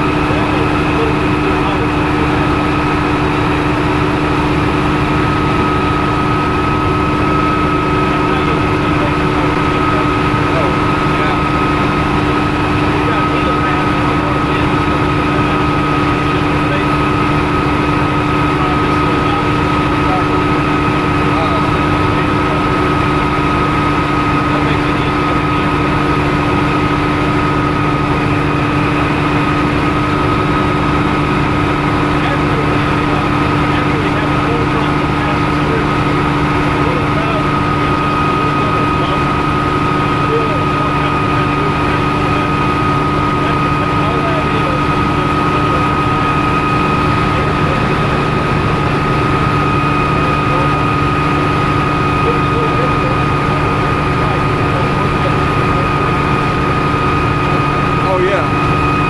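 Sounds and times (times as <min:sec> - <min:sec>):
constant whine: 0:00.0 - 0:59.0
helicopter engine and rotor drone: 0:00.0 - 0:59.0.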